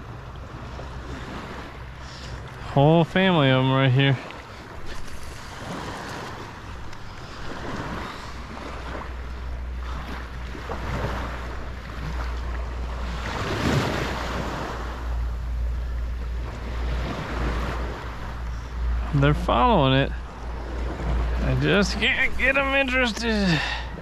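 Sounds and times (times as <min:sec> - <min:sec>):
small waves in shallow surf: 0:00.0 - 0:24.0.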